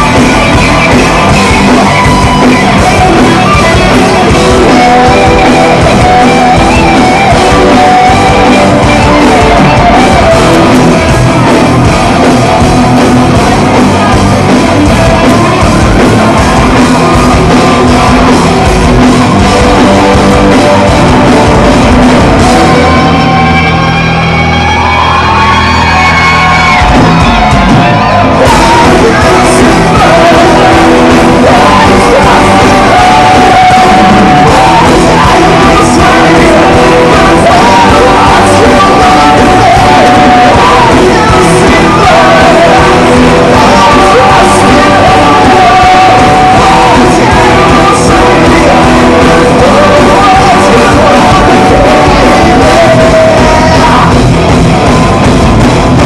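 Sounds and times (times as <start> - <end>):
lead singer singing: 0.0 - 54.5
drums crashing: 0.0 - 56.0
live rock band playing: 0.0 - 56.0.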